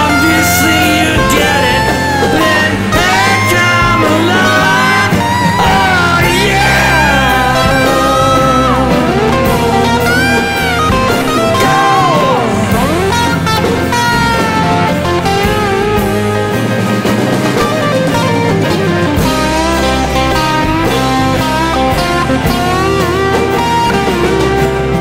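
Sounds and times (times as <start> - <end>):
bass and rhythm backing: 0.0 - 25.0
lead guitar solo: 0.0 - 25.0.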